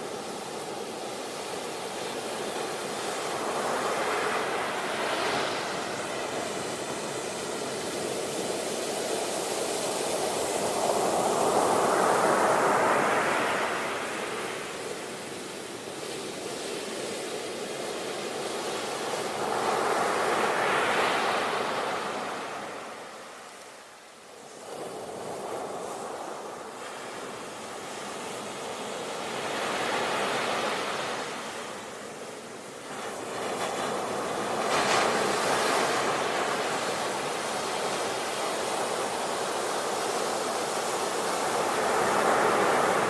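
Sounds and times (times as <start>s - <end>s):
sea waves breaking on shore: 0.0s - 43.0s.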